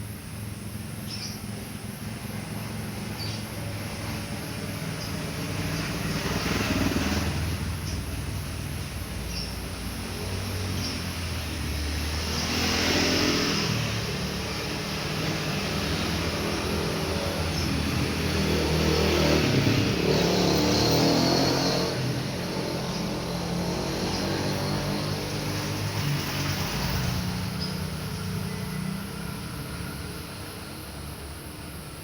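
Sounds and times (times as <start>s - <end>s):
vehicle engines passing: 0.0s - 32.0s.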